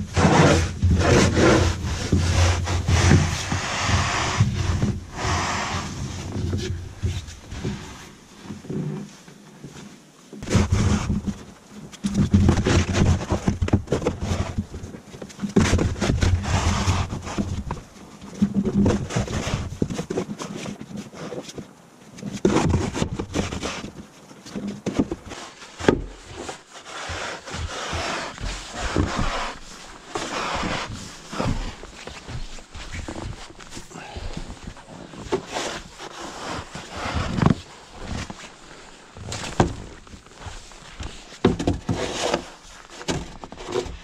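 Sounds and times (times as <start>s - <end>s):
snow shovel scraping wooden deck: 0.0s - 9.3s, 10.4s - 21.6s, 22.2s - 44.0s.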